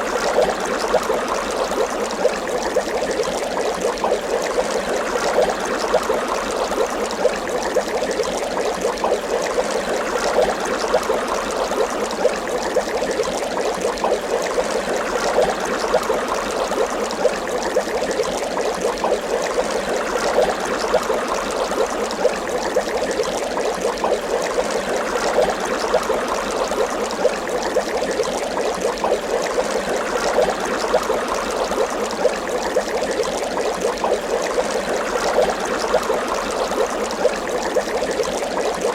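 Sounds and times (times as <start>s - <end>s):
water bubbling: 0.0s - 38.9s.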